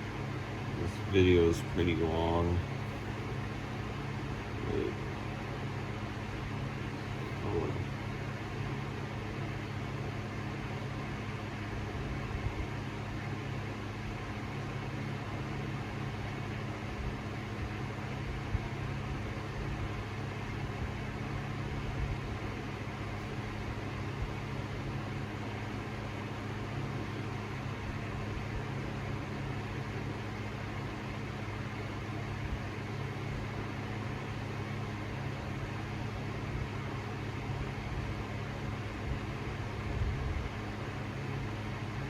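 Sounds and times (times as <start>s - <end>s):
ceiling fan motor hum: 0.0s - 42.0s.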